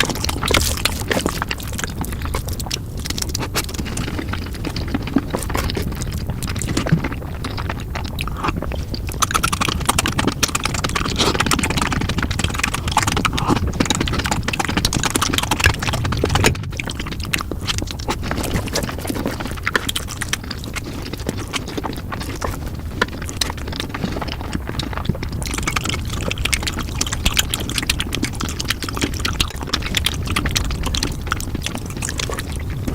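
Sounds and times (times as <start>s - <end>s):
sped-up noodle chewing clicks: 0.0s - 32.9s.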